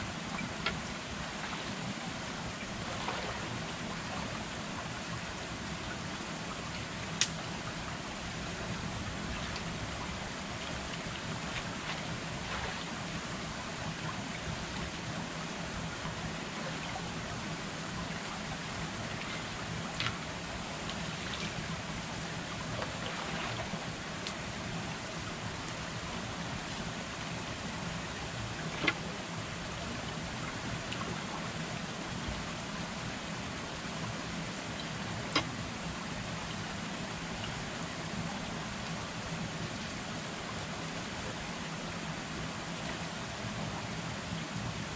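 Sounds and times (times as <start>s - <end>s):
creek water flowing: 0.0s - 44.9s.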